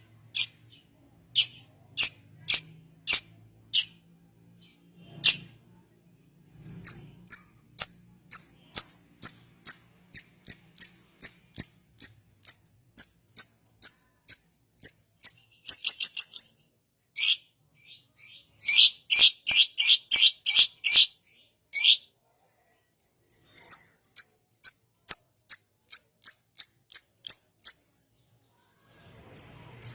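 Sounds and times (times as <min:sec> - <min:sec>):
small bird chirping: 0:00.0 - 0:29.9.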